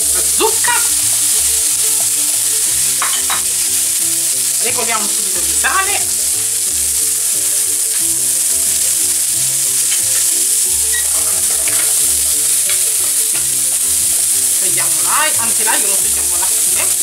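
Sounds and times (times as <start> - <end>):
food sizzling in oil: 0.0 - 17.0
soft background music: 0.0 - 17.0.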